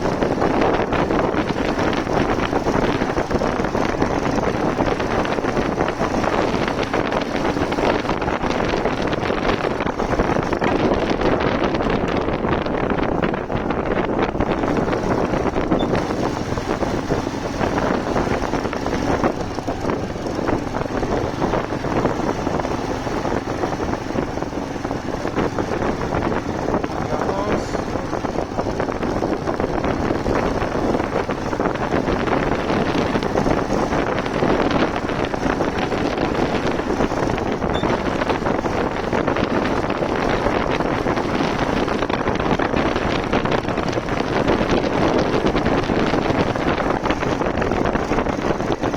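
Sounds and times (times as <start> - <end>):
motorcycle engine: 0.0 - 48.9
road noise: 0.0 - 48.9
wind buffeting microphone: 0.0 - 48.9.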